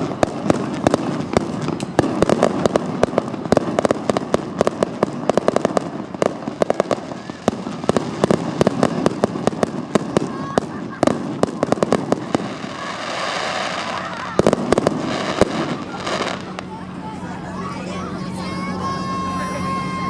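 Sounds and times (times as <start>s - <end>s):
fireworks cracking and popping: 0.0s - 17.1s.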